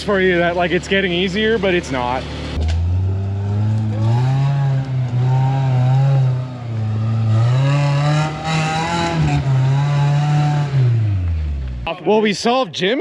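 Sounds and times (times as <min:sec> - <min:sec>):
truck engine revving: 0:00.0 - 0:11.9.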